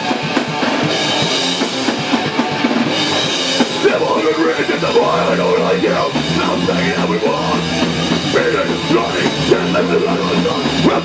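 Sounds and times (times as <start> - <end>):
bass guitar: 0.0 - 11.0
distorted electric guitars: 0.0 - 11.0
drum kit: 0.0 - 11.0.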